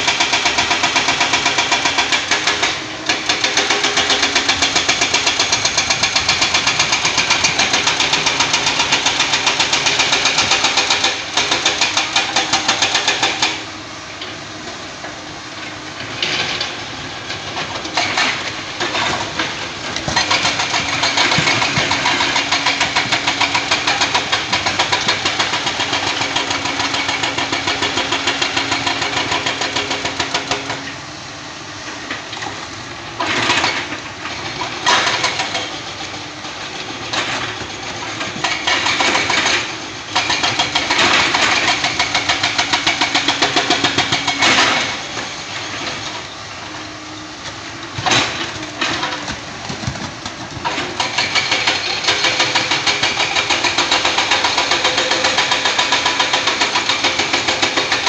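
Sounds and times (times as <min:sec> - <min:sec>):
excavator diesel engines pulsing: 0:00.0 - 0:58.0.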